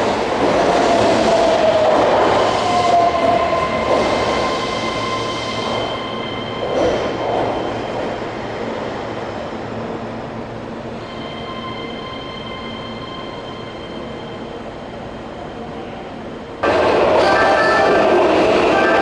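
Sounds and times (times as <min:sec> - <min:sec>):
electric train rumbling: 0:00.0 - 0:19.0
high whining train tones: 0:00.0 - 0:19.0.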